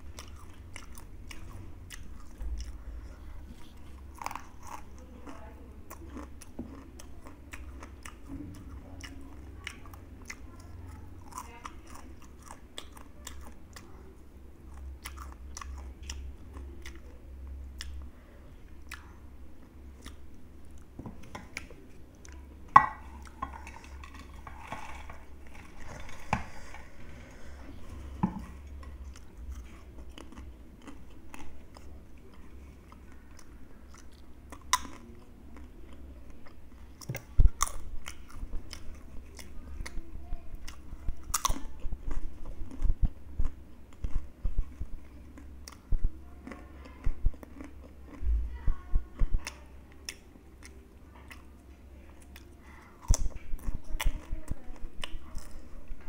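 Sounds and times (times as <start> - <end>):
chewing crunchy chips: 0.0 - 56.0.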